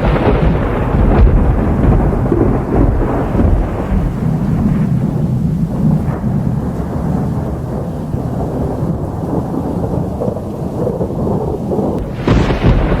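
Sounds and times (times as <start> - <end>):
thunder crack: 0.0 - 13.0
thunder rumbling: 0.0 - 13.0.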